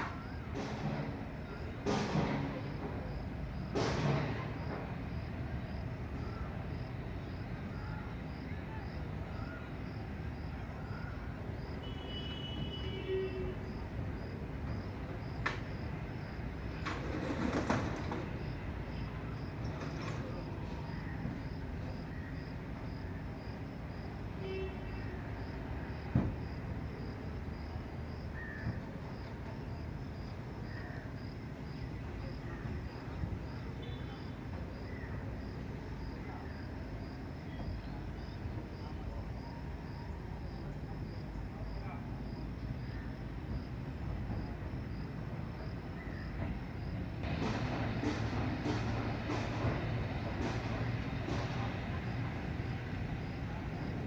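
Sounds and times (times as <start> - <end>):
cricket chirping: 0.0 - 0.5, 2.6 - 3.8, 4.4 - 54.0.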